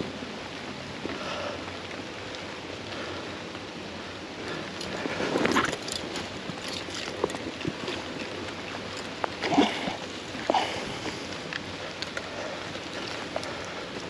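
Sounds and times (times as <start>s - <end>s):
rain pattering: 0.0s - 14.0s
river water splashing: 0.0s - 14.0s.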